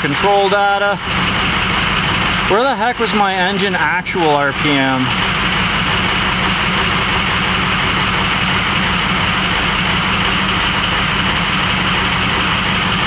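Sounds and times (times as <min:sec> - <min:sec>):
diesel engine idling rough: 0:00.0 - 0:13.0.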